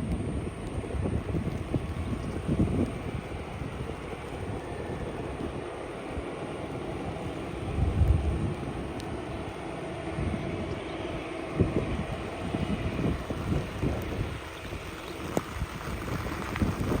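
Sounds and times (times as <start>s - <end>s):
low outdoor rumble: 0.0s - 17.0s
wind buffeting microphone: 0.0s - 17.0s.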